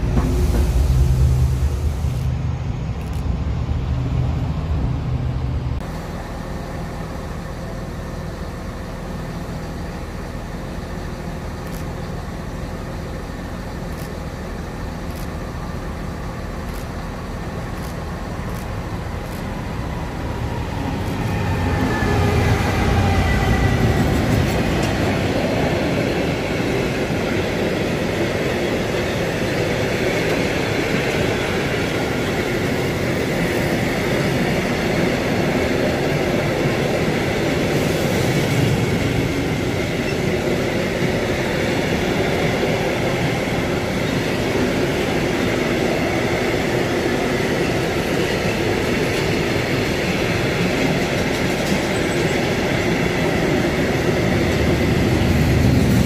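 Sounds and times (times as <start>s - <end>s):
diesel locomotive engine rumbling: 0.0s - 56.0s
freight train passing: 0.0s - 56.0s.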